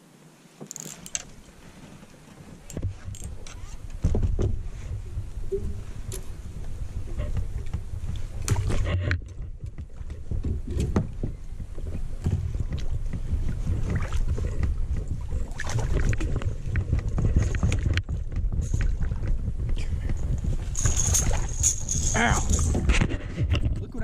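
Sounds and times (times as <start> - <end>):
kayak gear knocking: 2.6 - 24.0
low steady rumble: 2.8 - 24.0.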